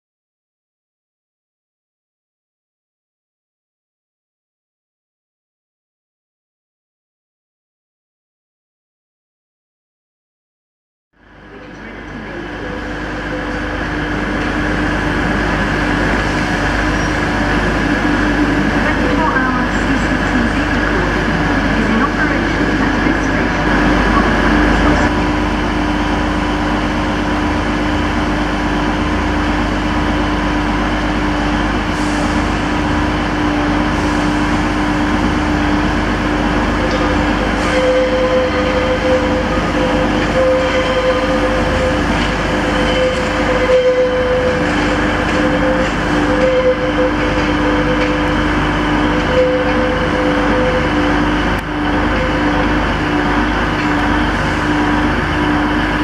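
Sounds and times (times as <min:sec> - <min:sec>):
diesel engine drone: 0:11.2 - 0:56.0.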